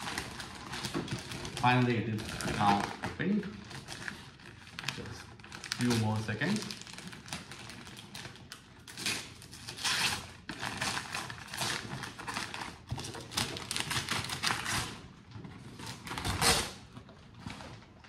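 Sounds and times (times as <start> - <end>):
wrapping paper rustling: 0.0 - 18.0.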